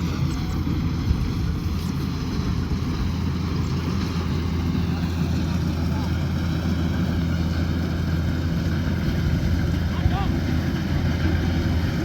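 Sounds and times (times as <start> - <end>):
engine droning: 0.0 - 12.0
threshing machinery noise: 0.0 - 12.0.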